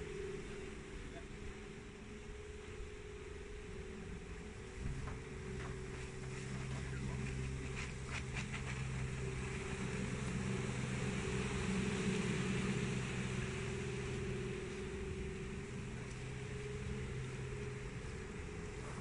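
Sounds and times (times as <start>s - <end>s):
electric outboard motor humming: 0.0s - 19.0s.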